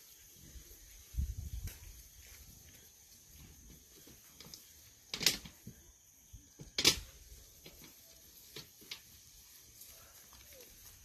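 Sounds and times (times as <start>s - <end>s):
faint high hiss: 0.0s - 11.0s.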